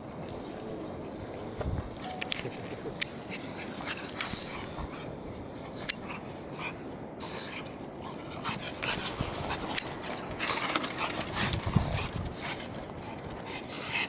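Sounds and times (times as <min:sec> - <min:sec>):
dogs scuffling: 0:00.0 - 0:14.0
dogs breathing and grunting: 0:00.1 - 0:14.0.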